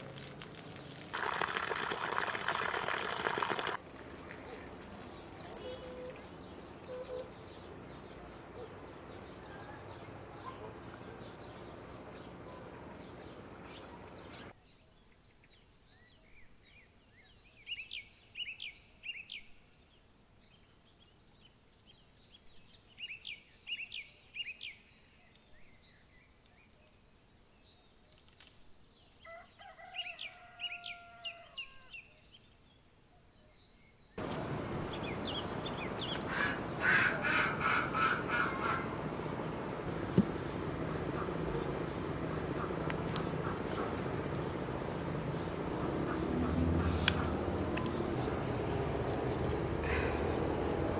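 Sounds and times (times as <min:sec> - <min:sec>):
outdoor background noise: 0:00.0 - 0:50.9
small songbirds chirping: 0:00.2 - 0:29.3, 0:31.6 - 0:50.9.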